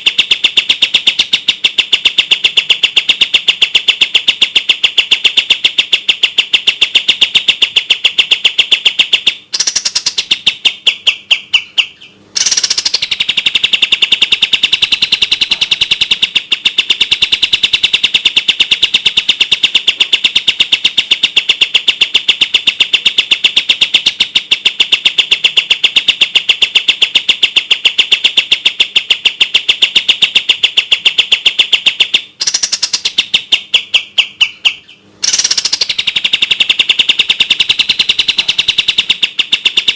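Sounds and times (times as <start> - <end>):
bird song with fast sharp notes: 0.0 - 21.8, 27.9 - 39.9.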